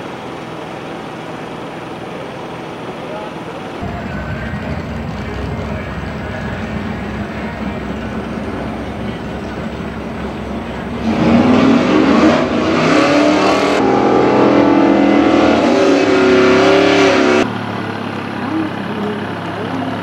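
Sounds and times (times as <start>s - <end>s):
steady background noise: 0.0s - 20.0s
race car engine revving: 3.8s - 20.0s.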